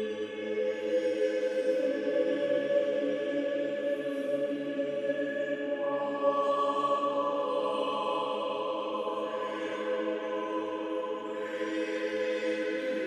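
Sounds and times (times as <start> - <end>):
choral music: 0.0 - 13.0.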